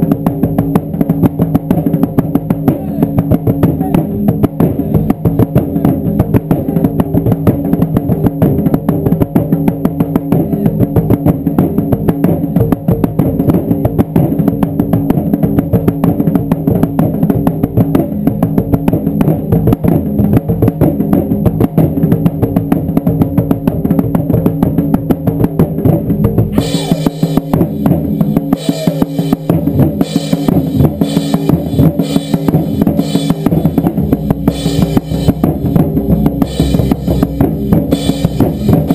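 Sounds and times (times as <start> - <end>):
taiko drums beating: 0.0 - 38.9.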